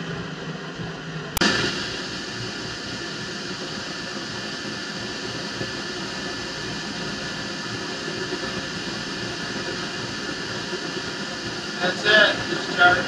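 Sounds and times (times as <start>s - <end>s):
machinery droning: 0.0s - 13.0s.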